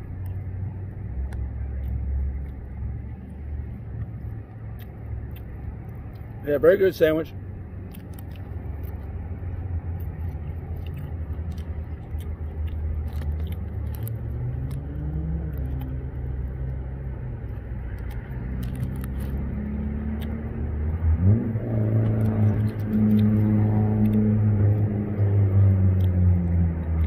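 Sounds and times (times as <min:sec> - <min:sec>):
vehicle engines rumbling: 0:00.0 - 0:27.0
chewing clicks: 0:01.2 - 0:06.4, 0:07.8 - 0:20.5, 0:22.0 - 0:27.0.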